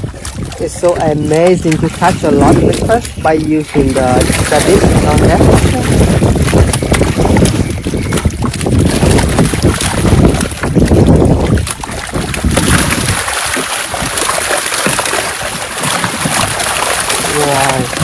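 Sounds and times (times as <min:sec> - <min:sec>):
fish splashing in water: 0:00.0 - 0:18.0
wind rumble on microphone: 0:00.0 - 0:18.0.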